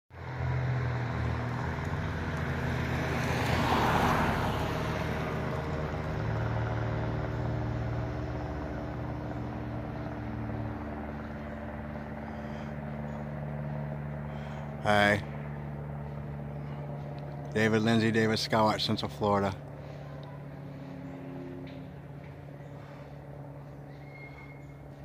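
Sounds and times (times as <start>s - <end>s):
low motor hum: 0.1s - 25.0s.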